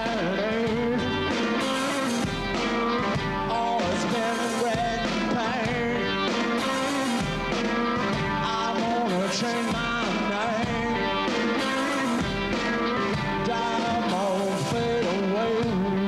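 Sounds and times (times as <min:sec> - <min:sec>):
distorted electric guitar: 0:00.0 - 0:16.0
drums: 0:00.0 - 0:16.0
person singing: 0:00.0 - 0:16.0.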